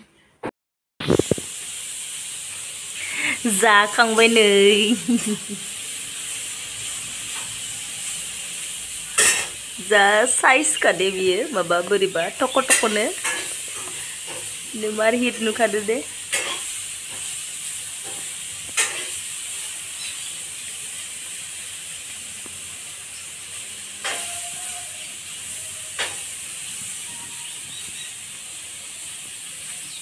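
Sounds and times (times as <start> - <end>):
high-pitched hiss: 1.0 - 30.0.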